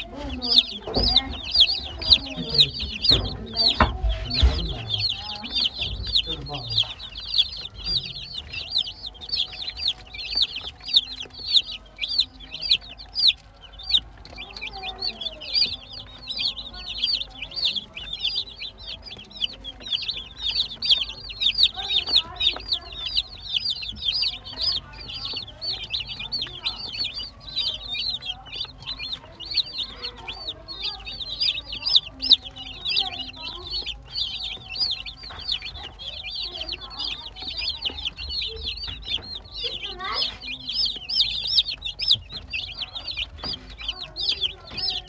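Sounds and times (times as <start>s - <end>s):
chicks peeping: 0.0s - 45.0s.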